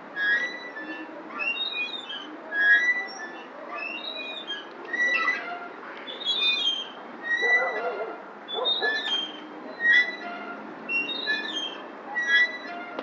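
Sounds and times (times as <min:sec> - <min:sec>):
metal swing squeaking: 0:00.1 - 0:13.0.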